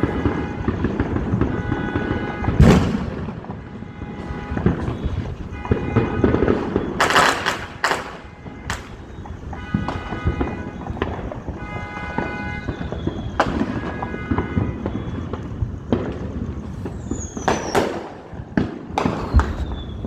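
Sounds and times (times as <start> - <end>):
firework loud low bang: 0.0 - 20.0
fireworks crackling pops: 0.0 - 20.0.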